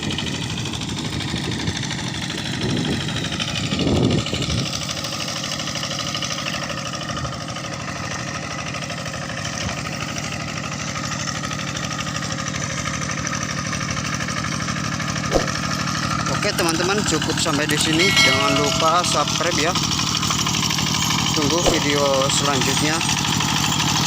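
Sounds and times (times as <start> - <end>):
diesel engine chugging: 0.0 - 24.0.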